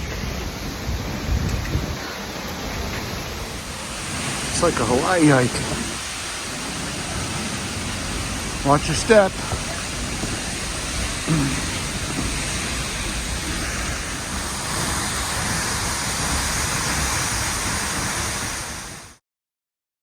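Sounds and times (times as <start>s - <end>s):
waterfall roaring: 0.0s - 19.2s.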